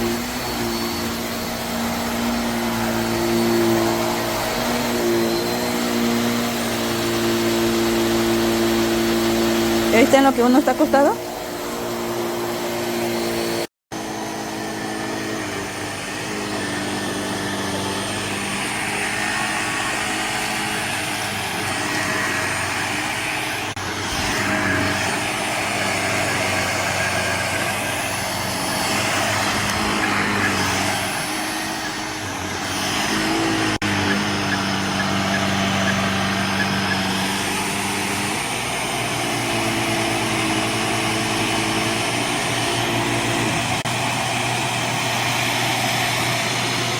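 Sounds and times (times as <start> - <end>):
handheld vacuum cleaner running: 0.0 - 46.9.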